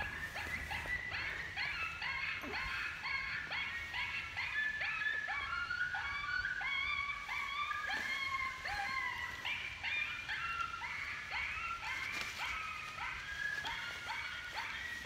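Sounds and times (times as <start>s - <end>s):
coyote yelps and whines: 0.0s - 15.0s.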